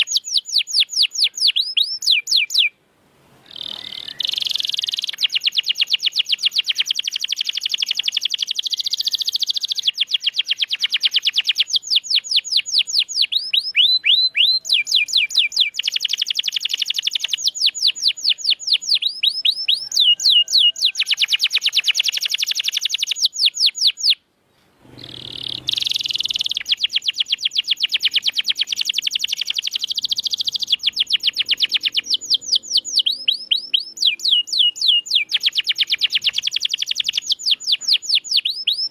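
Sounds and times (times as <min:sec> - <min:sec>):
canary singing trills: 0:00.0 - 0:02.8, 0:03.4 - 0:24.2, 0:24.9 - 0:38.9.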